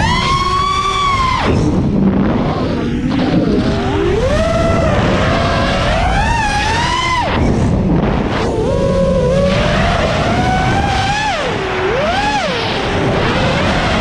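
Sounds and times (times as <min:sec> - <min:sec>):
quadcopter motors whining: 0:00.0 - 0:14.0
steady rushing noise: 0:00.0 - 0:14.0.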